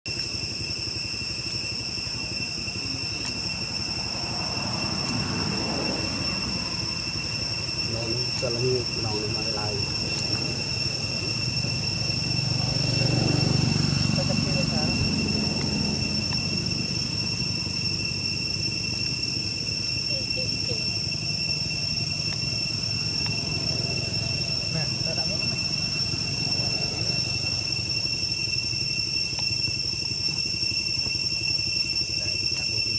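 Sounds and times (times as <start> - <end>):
insect chorus buzzing: 0.0 - 32.9
low rumble: 0.3 - 31.5.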